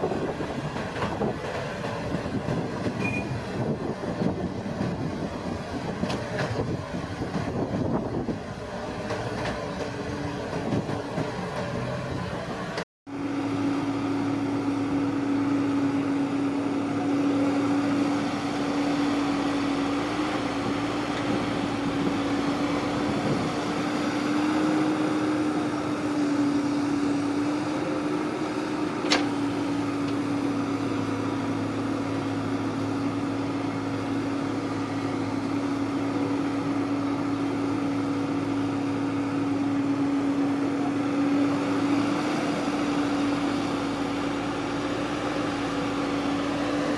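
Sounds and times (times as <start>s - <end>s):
harvester engine humming: 0.0s - 46.9s.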